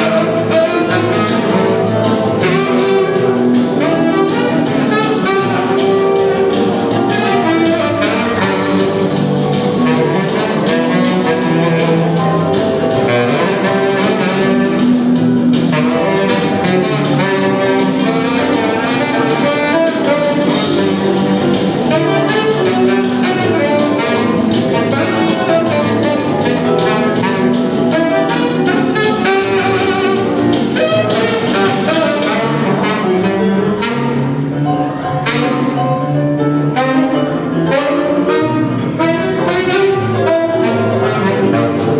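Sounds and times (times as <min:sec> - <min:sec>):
band accompaniment with bass: 0:00.0 - 0:41.9
saxophone playing jazz blues: 0:00.0 - 0:41.9.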